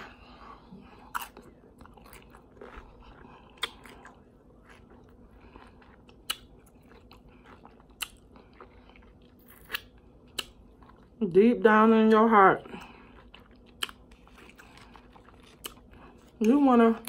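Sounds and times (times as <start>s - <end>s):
soft wet chewing: 0.0s - 11.3s, 12.6s - 17.0s.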